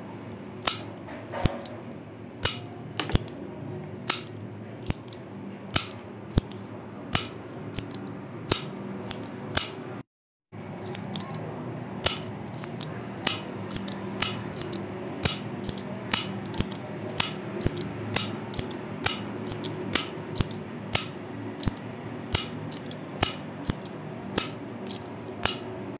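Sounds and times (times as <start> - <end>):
steady low hum: 0.0 - 10.0, 10.6 - 25.9.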